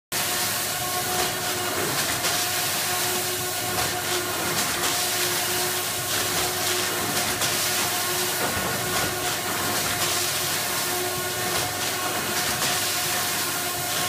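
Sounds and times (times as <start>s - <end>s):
machine mechanical hum: 0.2s - 14.0s.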